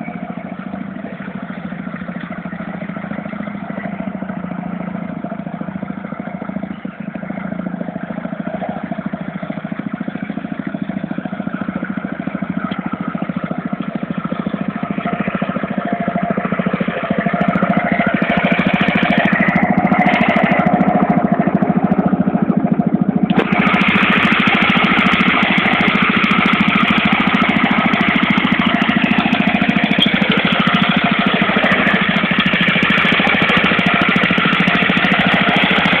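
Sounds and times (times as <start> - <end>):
ride-on mower engine running: 0.0 - 36.0.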